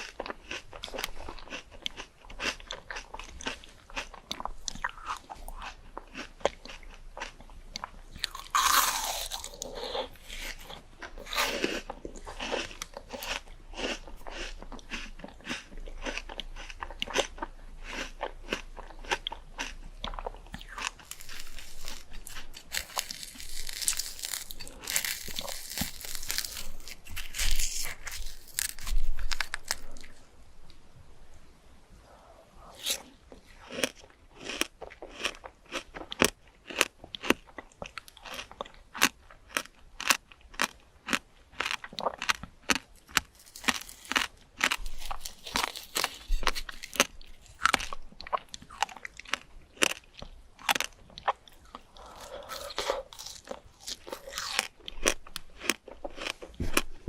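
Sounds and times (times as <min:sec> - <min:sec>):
crunchy fruit chewing: 0:00.0 - 0:30.8, 0:32.6 - 0:57.0.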